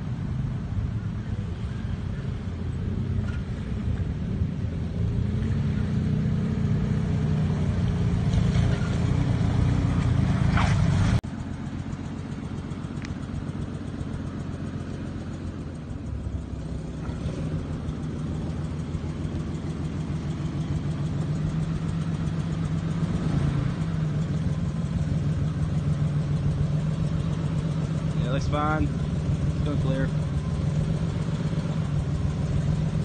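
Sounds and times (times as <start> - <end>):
engine idling: 0.0 - 33.0
truck engine pulling through water: 0.0 - 33.0.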